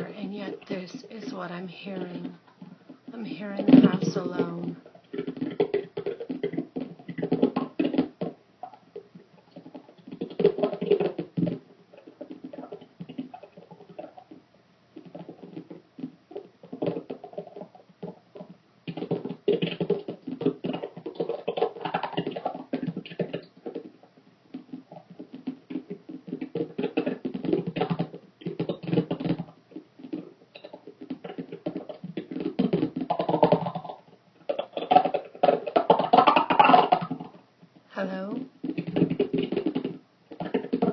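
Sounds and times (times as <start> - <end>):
rapid irregular tapping and clicking: 0.0 - 40.9.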